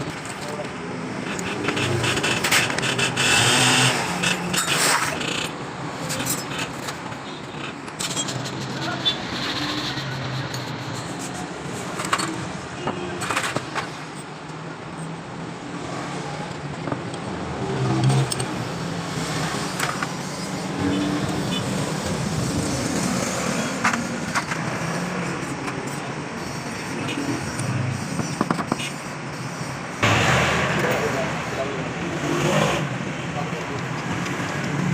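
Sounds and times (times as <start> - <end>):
street traffic: 0.0 - 34.9.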